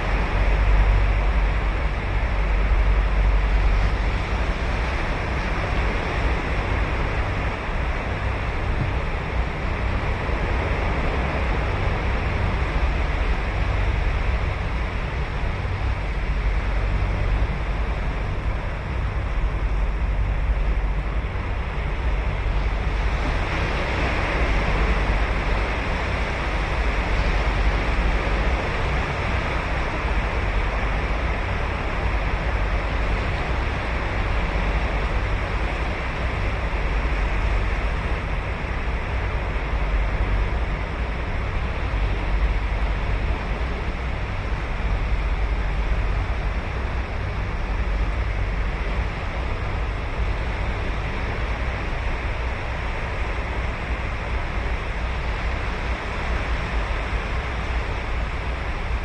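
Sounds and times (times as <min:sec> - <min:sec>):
ocean waves breaking on beach: 0:00.0 - 0:59.0
wind noise on microphone: 0:00.0 - 0:59.0.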